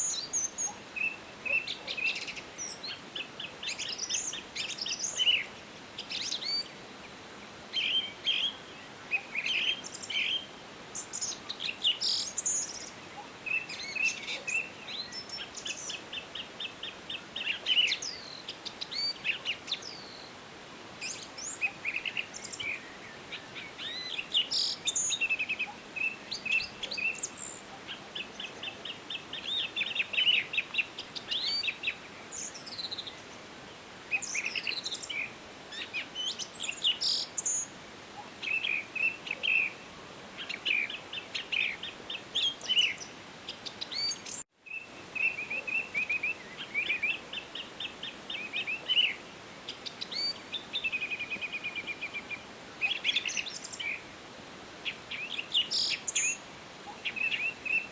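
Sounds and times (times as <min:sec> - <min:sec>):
faint steady hiss: 0:00.0 - 0:57.9
songbirds singing and calling: 0:00.0 - 0:57.9.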